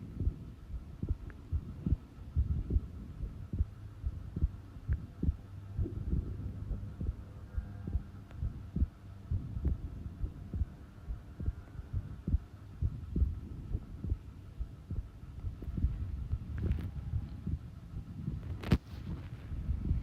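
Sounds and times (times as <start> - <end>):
heart beating: 0.0 - 20.0
steady low hum: 0.0 - 20.0.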